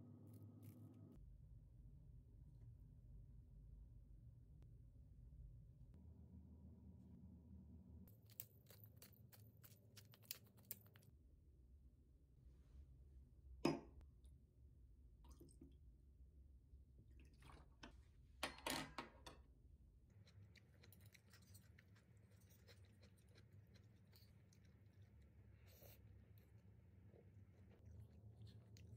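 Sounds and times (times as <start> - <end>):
low room hum: 0.0 - 28.9.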